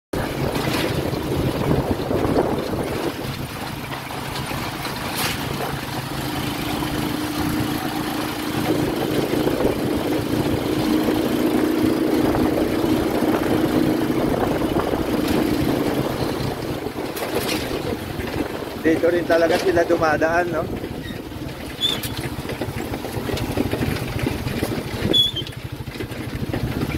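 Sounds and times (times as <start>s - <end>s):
motorcycle engine running: 0.2s - 26.9s.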